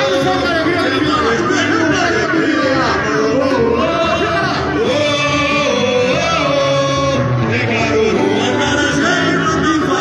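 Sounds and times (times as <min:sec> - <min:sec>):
lead singer singing: 0:00.0 - 0:10.0.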